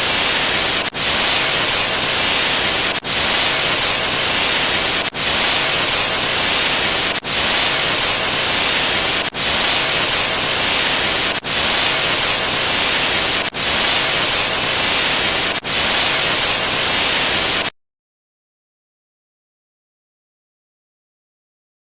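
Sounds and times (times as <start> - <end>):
loud static hiss: 0.0 - 17.7.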